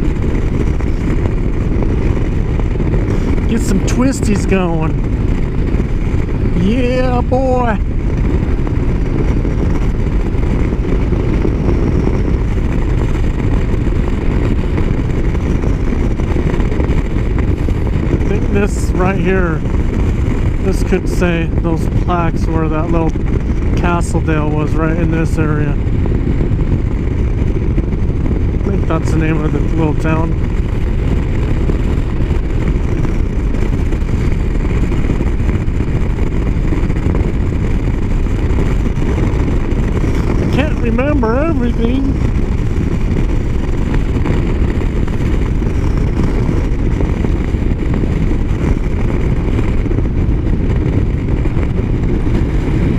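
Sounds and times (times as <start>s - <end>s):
motorcycle engine running: 0.0s - 52.9s
wind rumble on microphone: 0.0s - 52.9s.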